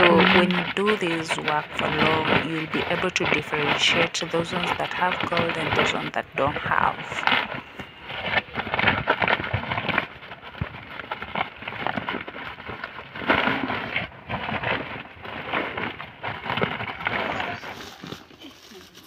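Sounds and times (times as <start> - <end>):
plastic sack rustling and crinkling: 0.0 - 19.0.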